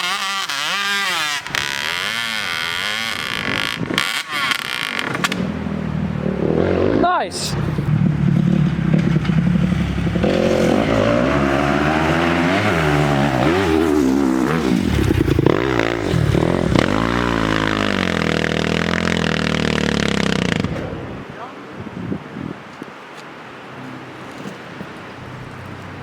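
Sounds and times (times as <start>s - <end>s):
dirt bike engine revving: 0.0s - 21.2s.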